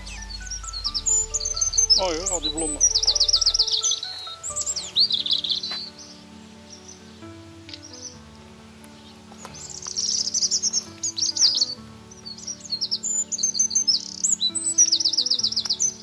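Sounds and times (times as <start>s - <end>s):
songbird trilling: 0.0s - 8.2s, 9.0s - 16.0s
soft background music: 0.0s - 16.0s.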